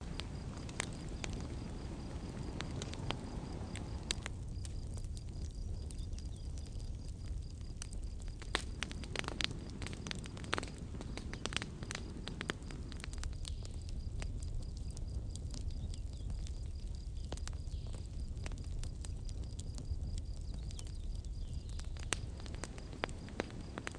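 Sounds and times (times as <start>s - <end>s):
low rumble of flames: 0.0s - 23.9s
wood crackling and popping: 0.0s - 23.9s.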